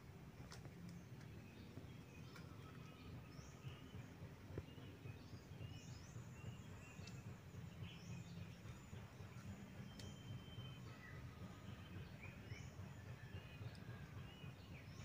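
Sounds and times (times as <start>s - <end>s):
steady low rumble: 0.0s - 15.0s
faint bird chirps: 1.0s - 15.0s.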